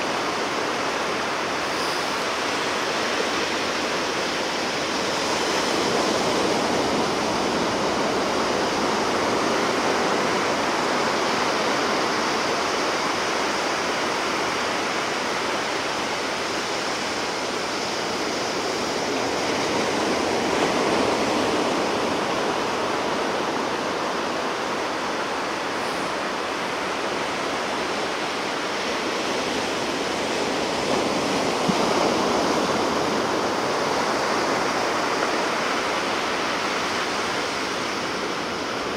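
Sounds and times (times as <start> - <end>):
ocean surf breaking on shore: 0.0 - 38.9.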